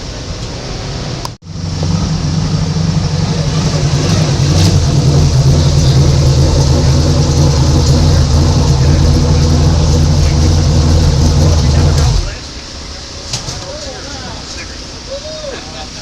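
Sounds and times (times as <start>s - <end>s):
race car engine rumbling: 0.0s - 16.0s.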